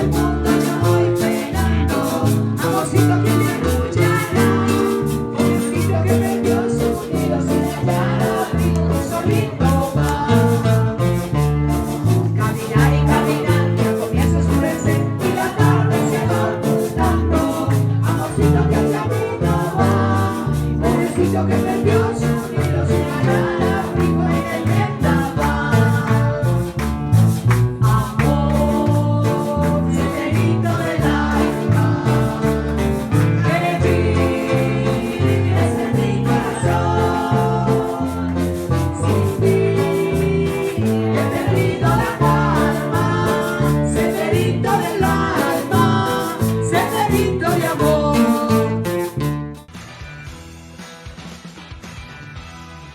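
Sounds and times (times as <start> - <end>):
person singing: 0.0 - 49.2
acoustic ensemble playing: 0.0 - 50.7.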